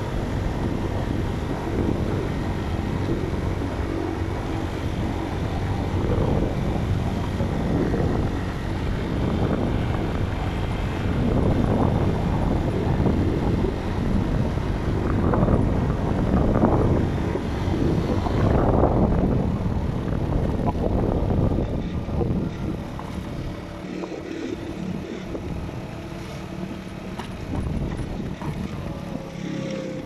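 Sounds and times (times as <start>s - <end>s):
motocross bike engine running: 0.0s - 30.0s
wind buffeting microphone: 0.0s - 30.0s.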